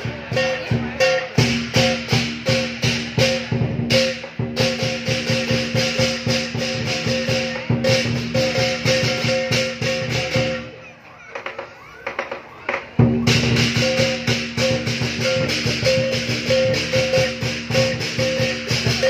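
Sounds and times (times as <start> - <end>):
drum and cymbals beating: 0.0 - 19.0.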